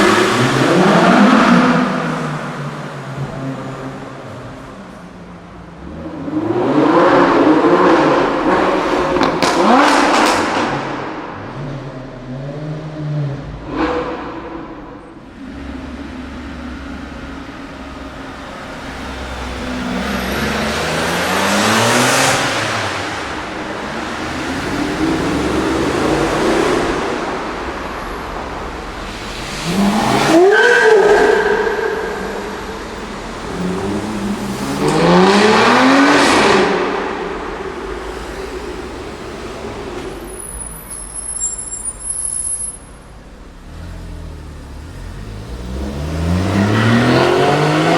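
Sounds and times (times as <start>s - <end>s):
car engines revving and accelerating: 0.0s - 47.9s.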